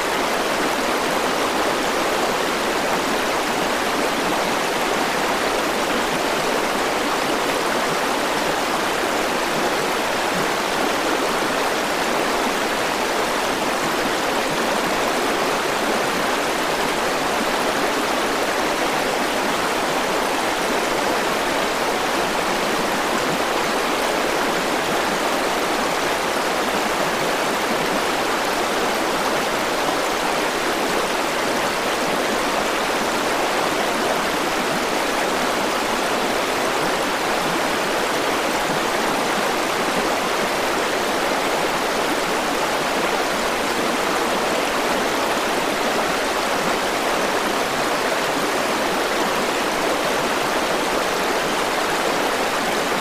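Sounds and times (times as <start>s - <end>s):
river water flowing over stones: 0.0s - 53.0s.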